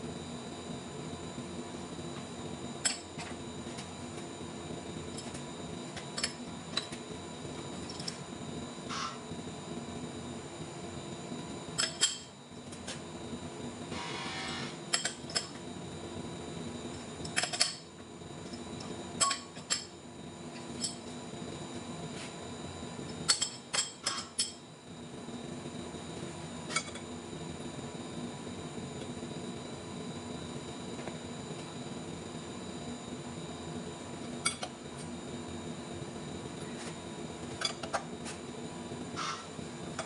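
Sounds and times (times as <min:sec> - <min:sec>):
machine-shop hum: 0:00.0 - 0:40.0.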